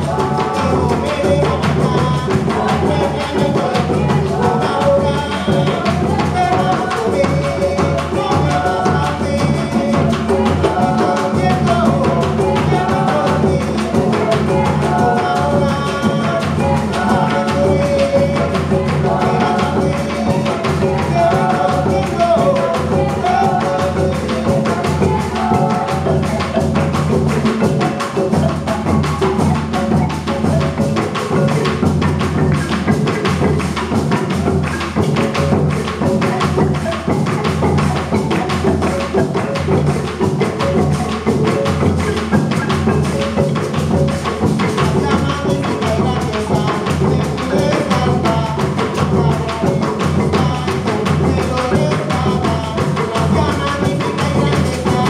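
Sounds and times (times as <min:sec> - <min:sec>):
bass drum: 0:00.0 - 0:55.0
hand drums: 0:00.0 - 0:55.0
marimba: 0:00.0 - 0:55.0.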